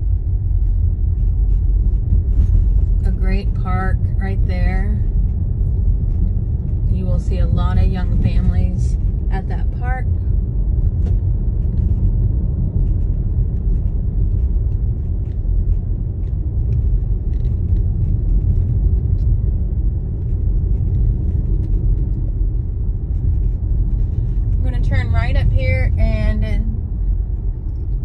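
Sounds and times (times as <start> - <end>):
car driving tyre and engine rumble: 0.0 - 28.0.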